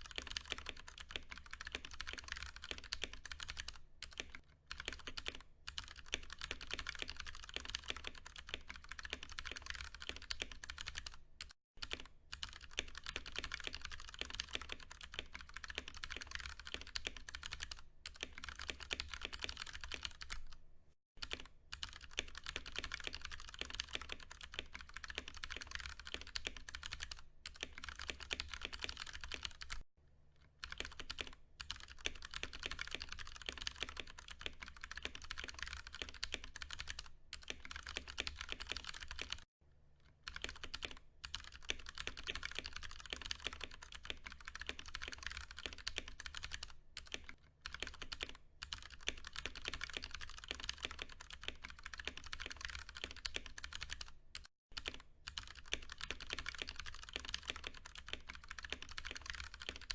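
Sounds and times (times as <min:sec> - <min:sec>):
fast mechanical keyboard typing: 0:00.0 - 0:20.6, 0:21.2 - 0:29.8, 0:30.6 - 0:39.5, 0:40.2 - 0:59.9.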